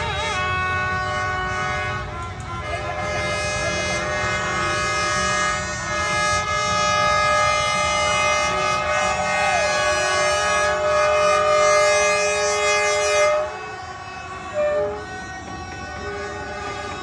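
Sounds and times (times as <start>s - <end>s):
locomotive horn: 0.0s - 17.0s
many horns honking: 0.0s - 17.0s.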